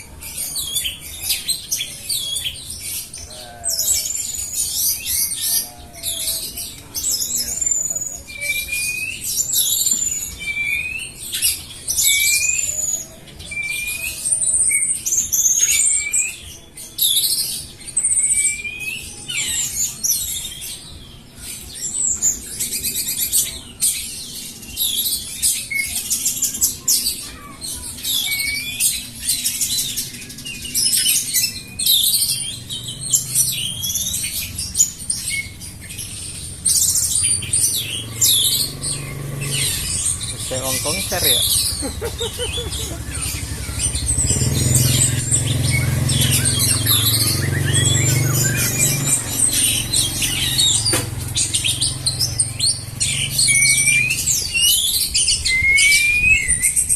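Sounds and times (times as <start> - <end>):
songbird singing: 0.0 - 56.9.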